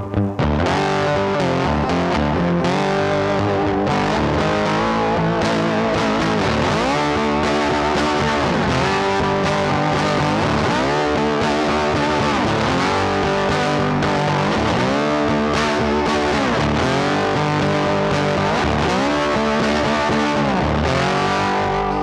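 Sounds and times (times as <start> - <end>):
backing music: 0.0 - 22.0
distorted electric guitar: 0.0 - 22.0.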